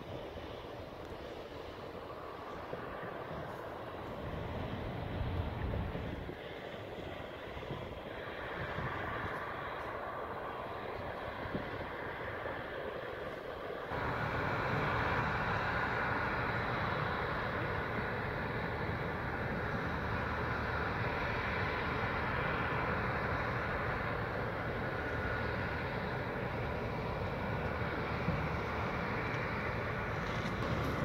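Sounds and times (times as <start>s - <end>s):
engine drone: 0.0s - 31.0s
faint steady whine: 0.0s - 31.0s.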